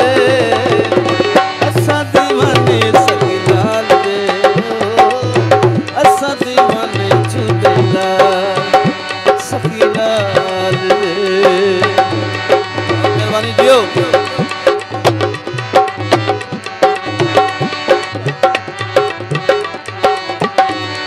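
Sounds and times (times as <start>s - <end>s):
harmonium melody: 0.0s - 21.0s
tabla and dholak rhythm: 0.0s - 21.0s.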